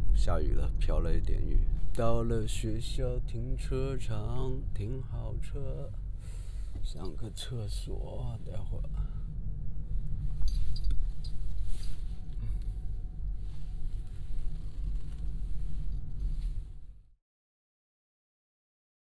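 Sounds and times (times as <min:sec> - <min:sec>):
car rolling slowly low rumble: 0:00.0 - 0:17.2.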